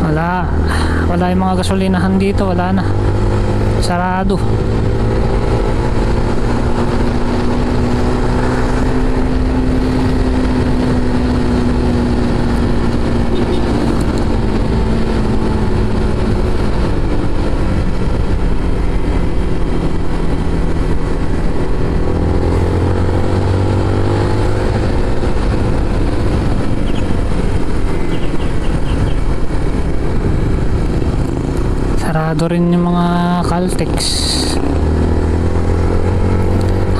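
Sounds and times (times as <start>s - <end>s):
motorcycle engine running: 0.0s - 36.9s
wind rush: 0.0s - 36.9s.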